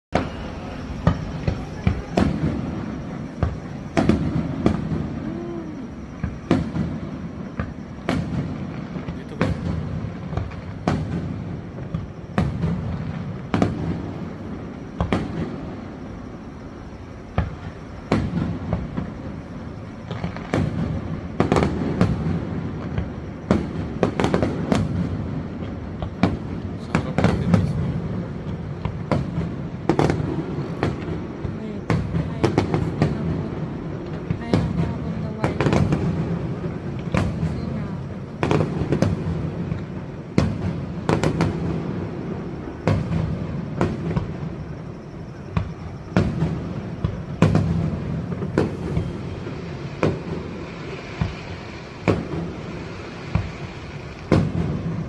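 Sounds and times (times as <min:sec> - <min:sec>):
fireworks bursting: 0:00.1 - 0:55.0
low rumble of echoing booms: 0:00.2 - 0:53.7.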